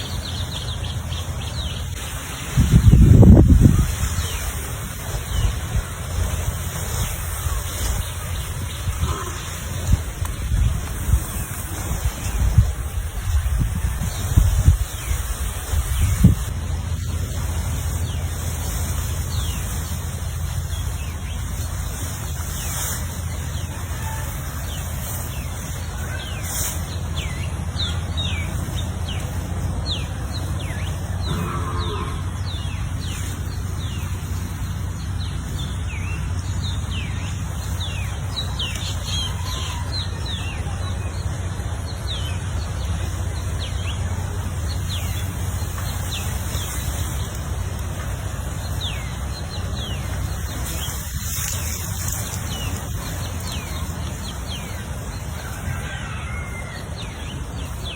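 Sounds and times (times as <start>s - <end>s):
small birds chirping: 0.0s - 57.9s
steady low rumble: 0.0s - 57.9s.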